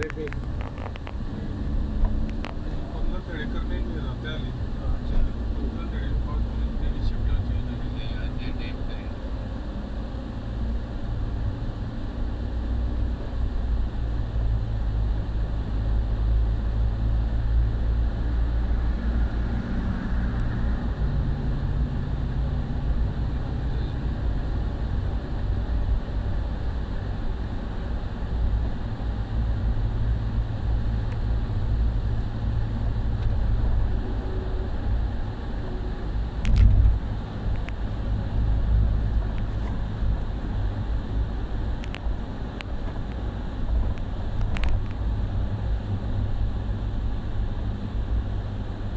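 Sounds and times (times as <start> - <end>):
engine and tyre road noise: 0.0 - 48.9.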